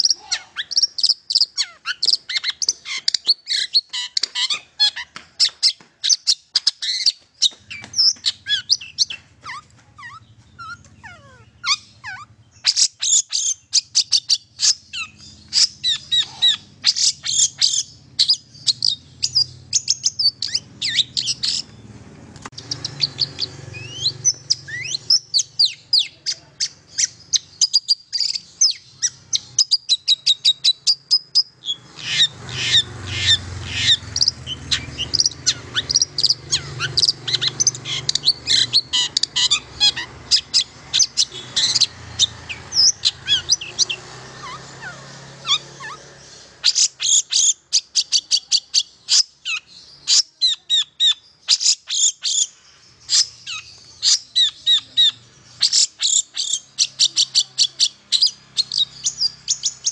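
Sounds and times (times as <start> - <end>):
shrike singing rapid chattering notes: 0.0 - 52.5, 53.1 - 59.9.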